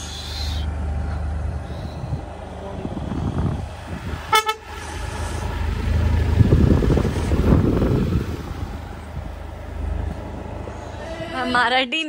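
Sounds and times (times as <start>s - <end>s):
car rumbling on road: 0.0s - 11.9s
wind buffeting microphone: 0.8s - 10.8s.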